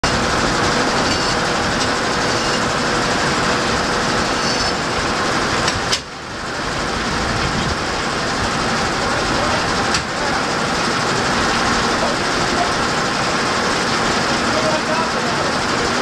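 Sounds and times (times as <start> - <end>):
sawmill mechanical clatter: 0.0 - 16.0.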